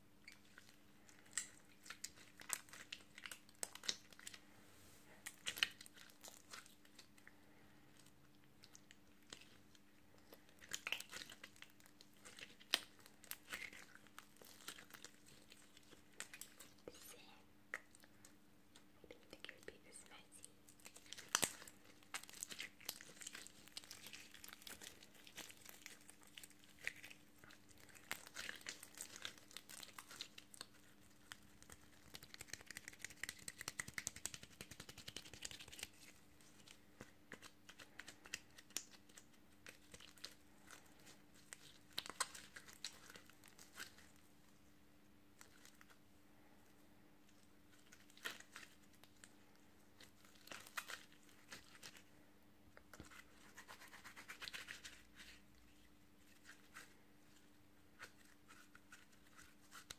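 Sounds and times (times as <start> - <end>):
faint sticky crackles: 0.0 - 59.9.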